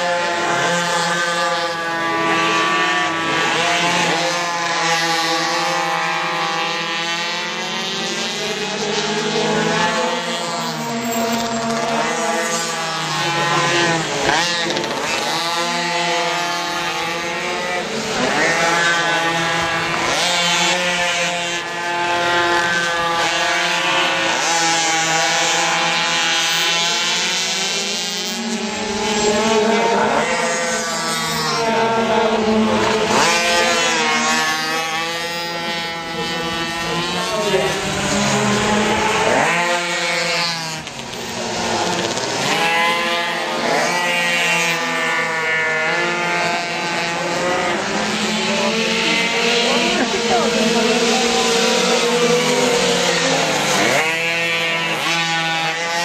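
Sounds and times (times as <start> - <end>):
small racing engines revving: 0.0 - 56.0.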